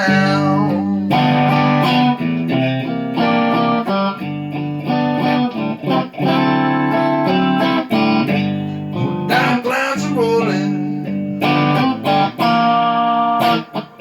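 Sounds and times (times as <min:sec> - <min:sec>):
slow blues electric guitar: 0:00.0 - 0:14.0.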